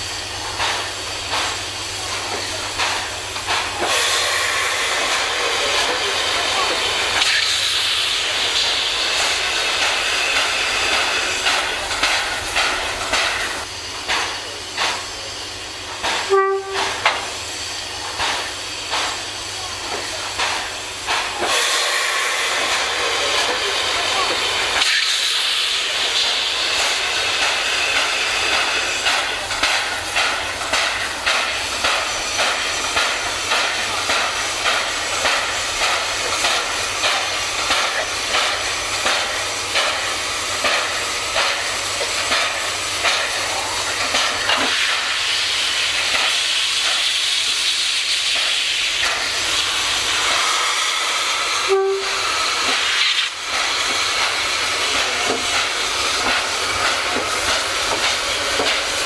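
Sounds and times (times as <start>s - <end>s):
steam hissing: 0.0s - 59.0s
steam locomotive chuffing: 0.0s - 59.0s.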